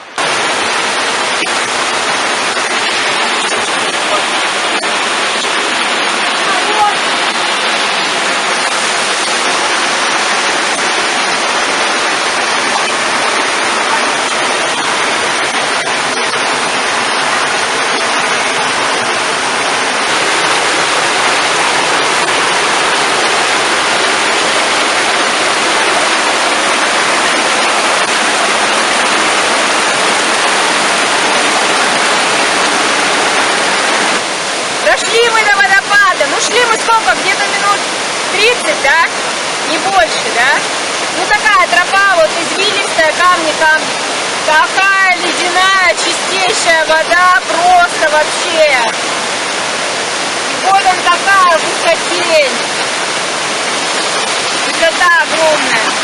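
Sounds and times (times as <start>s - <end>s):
rushing mountain water: 0.0s - 56.0s.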